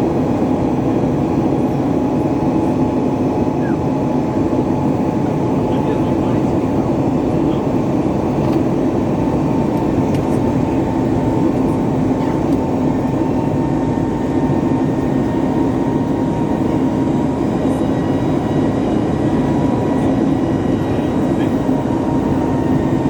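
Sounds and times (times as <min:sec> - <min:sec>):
jet engine cabin hum: 0:00.0 - 0:23.0.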